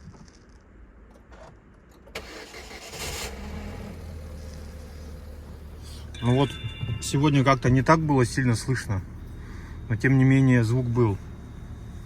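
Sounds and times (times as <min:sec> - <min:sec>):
car starter engaging: 0:02.1 - 0:12.0
car engine idling: 0:02.2 - 0:12.0.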